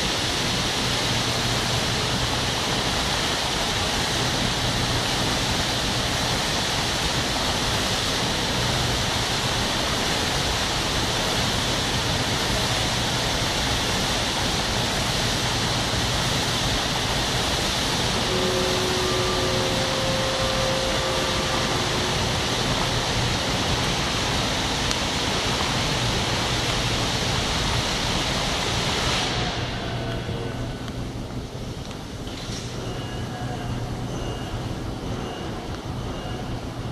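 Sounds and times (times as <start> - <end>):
fountain water splashing: 0.0 - 29.9.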